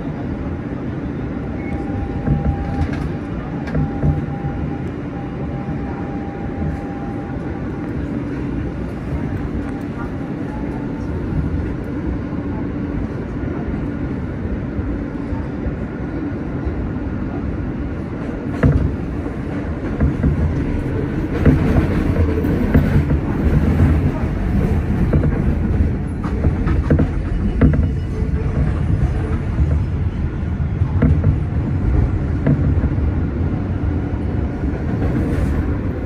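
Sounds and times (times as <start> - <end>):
wheels rumbling on rail: 0.0 - 36.0.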